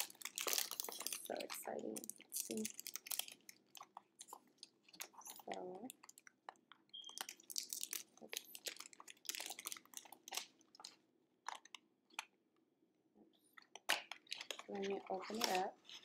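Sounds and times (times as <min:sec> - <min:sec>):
cellophane wrapper crinkling: 0:00.0 - 0:12.2, 0:13.6 - 0:16.0.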